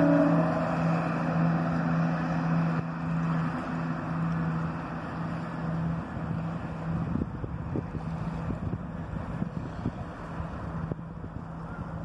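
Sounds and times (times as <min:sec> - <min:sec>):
train engine hum: 0:00.0 - 0:12.0.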